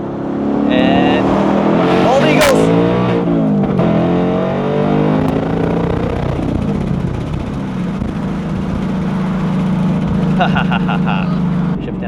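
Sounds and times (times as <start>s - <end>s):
car engine drone: 0.0s - 12.0s.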